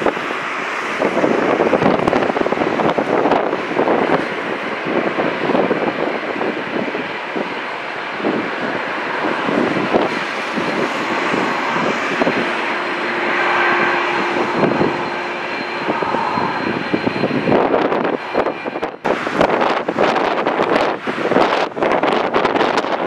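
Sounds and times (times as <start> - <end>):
jet engines roaring with whine: 0.0 - 23.0
wind buffeting microphone: 0.0 - 23.0.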